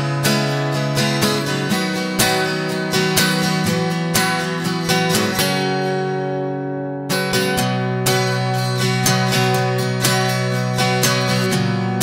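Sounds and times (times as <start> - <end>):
strummed guitar chords: 0.0 - 12.0.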